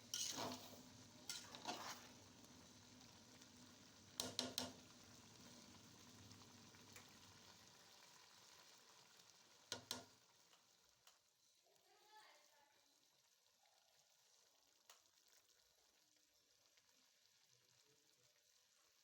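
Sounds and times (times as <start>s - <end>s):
food sizzling in a pot: 0.0s - 19.0s.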